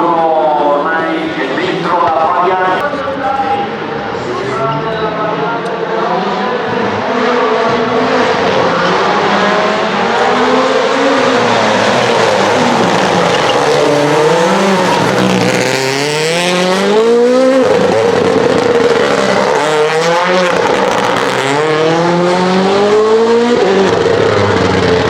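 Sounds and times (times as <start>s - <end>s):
car engine accelerating hard: 3.0s - 25.0s.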